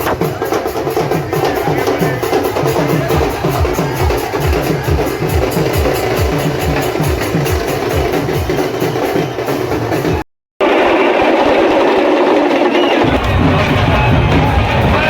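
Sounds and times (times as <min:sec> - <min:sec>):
deep drum strokes: 0:00.0 - 0:15.0
dense drumming din: 0:00.0 - 0:15.0.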